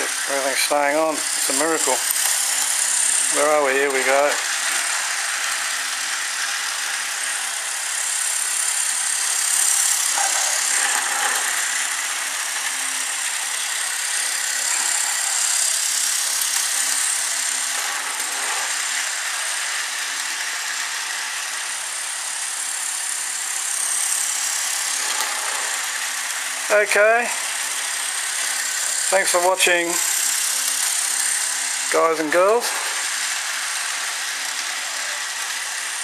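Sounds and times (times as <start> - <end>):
model train motor whirring: 0.0 - 36.0.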